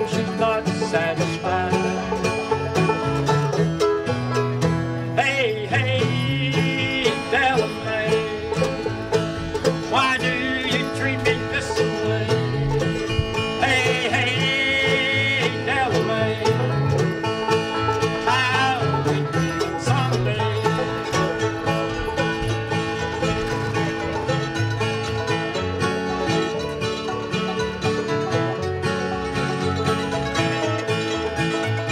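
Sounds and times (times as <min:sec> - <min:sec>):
banjo picking: 0:00.0 - 0:31.9
bluegrass string band playing: 0:00.0 - 0:31.9.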